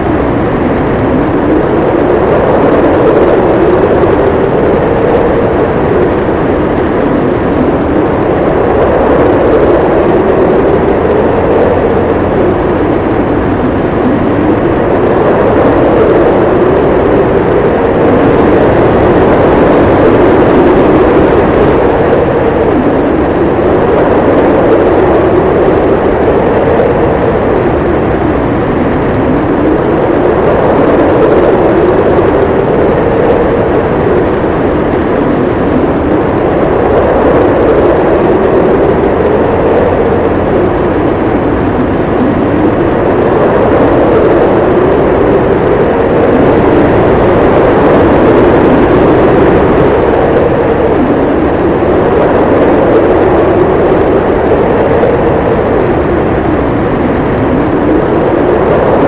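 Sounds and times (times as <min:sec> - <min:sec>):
blizzard wind howling: 0:00.0 - 0:59.0.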